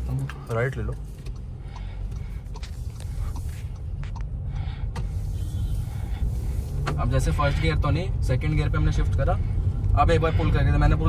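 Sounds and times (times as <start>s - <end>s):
car engine drone from inside: 0.0s - 11.0s.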